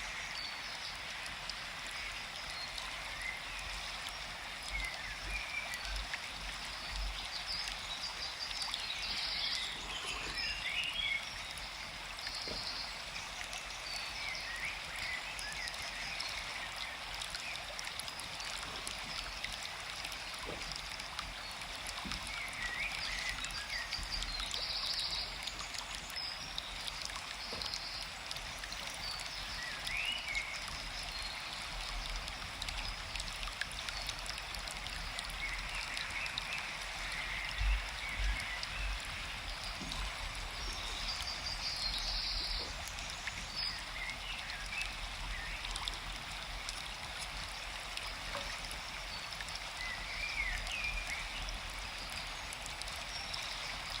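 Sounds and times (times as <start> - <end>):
forest stream running: 0.0 - 54.0.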